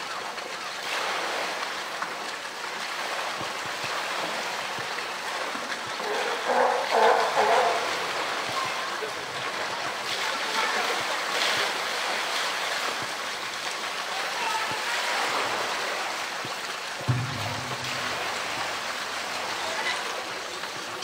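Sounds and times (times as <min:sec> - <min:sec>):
steady rush of water: 0:00.0 - 0:21.0
water splashing: 0:00.0 - 0:21.0.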